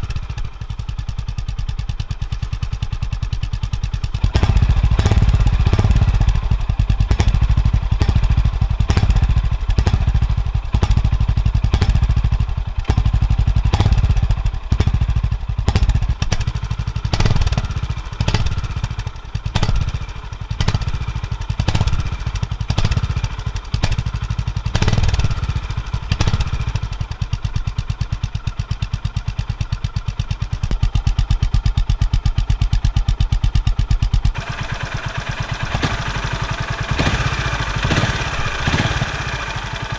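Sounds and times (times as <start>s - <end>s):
motorcycle engine exhaust pulses: 0.0s - 39.9s.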